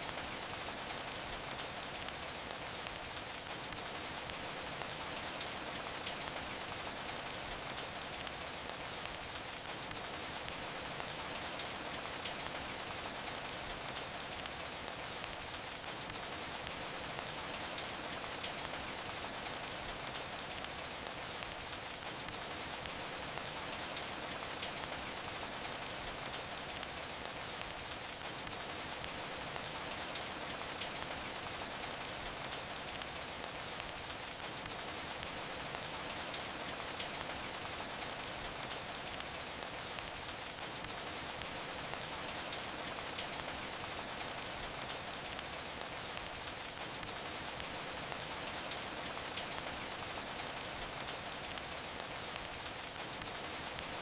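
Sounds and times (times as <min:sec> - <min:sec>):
steady rain falling: 0:00.0 - 0:54.0
wood fire crackling and popping: 0:00.0 - 0:54.0.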